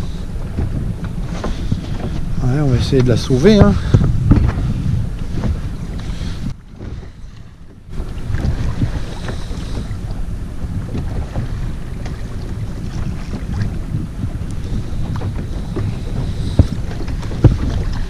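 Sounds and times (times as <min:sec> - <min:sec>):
water knocking against hull: 0:00.0 - 0:18.0
wind buffeting microphone: 0:00.0 - 0:18.0.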